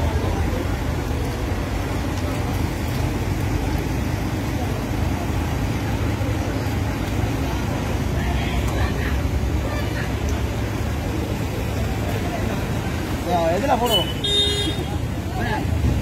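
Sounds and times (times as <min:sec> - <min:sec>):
van engine low rumble: 0:00.0 - 0:13.6.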